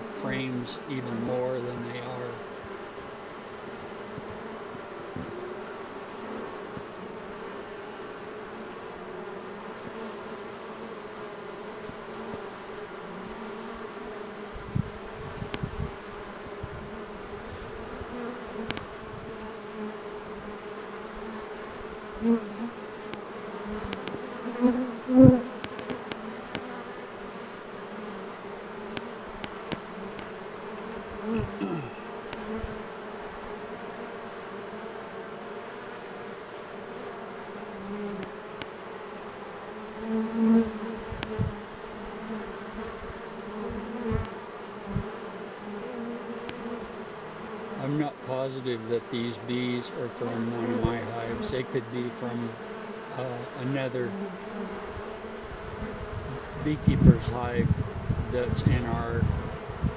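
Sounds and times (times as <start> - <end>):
bee swarm humming: 0.0 - 59.9
single bees buzzing past: 0.0 - 59.9.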